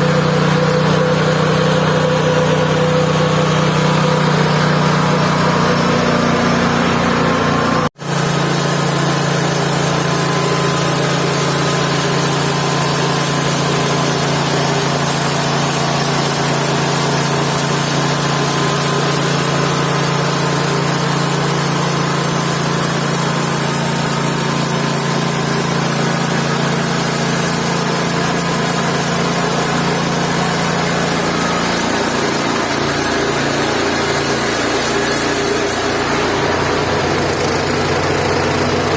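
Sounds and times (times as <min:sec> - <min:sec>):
band sawmill engine running: 0:00.0 - 0:38.9.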